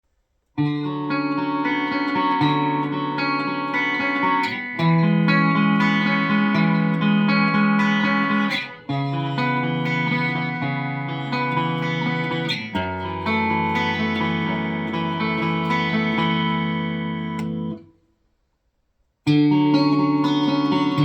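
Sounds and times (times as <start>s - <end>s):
clean electric guitar chords: 0.6s - 18.0s, 19.3s - 21.0s.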